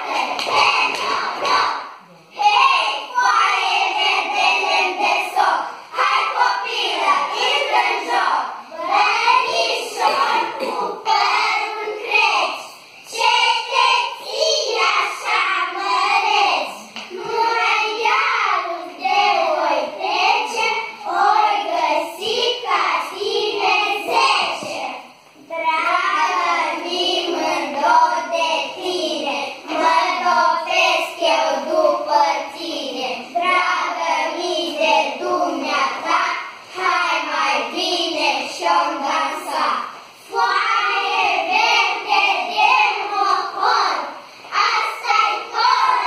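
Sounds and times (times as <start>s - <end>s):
children singing: 0.0s - 46.0s.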